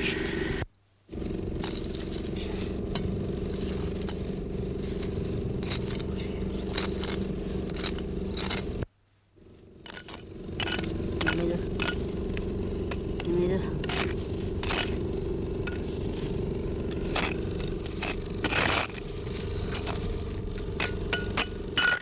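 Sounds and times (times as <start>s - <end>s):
steady low hum: 0.0s - 22.0s
hands scraping soil: 1.5s - 8.8s, 9.8s - 21.8s.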